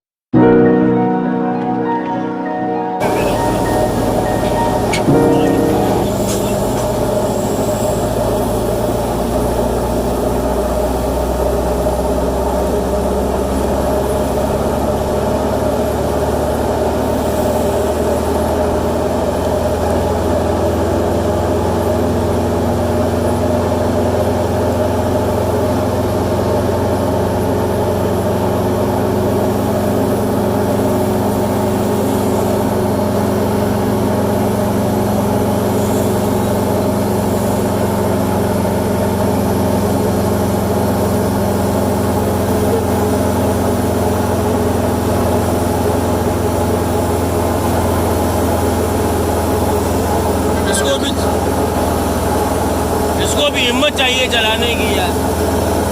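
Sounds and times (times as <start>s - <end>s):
tow tug heavy engine running: 3.0s - 55.9s.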